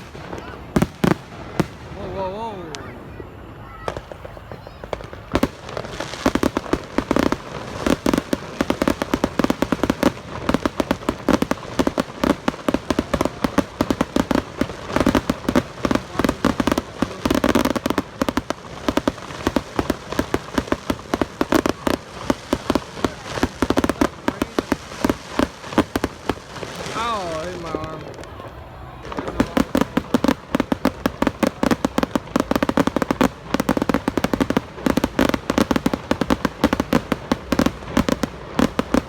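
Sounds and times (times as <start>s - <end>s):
fireworks popping and crackling: 0.0s - 39.0s.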